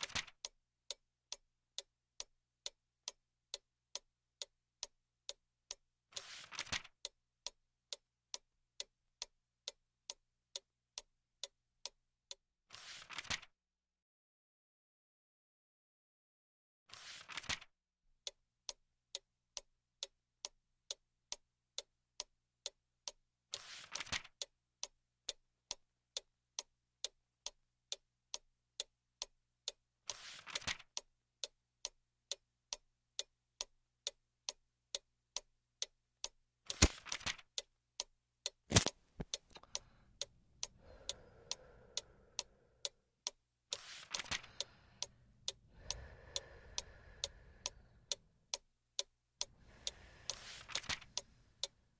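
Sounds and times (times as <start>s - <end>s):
clock ticking: 0.0s - 12.4s, 18.2s - 51.9s.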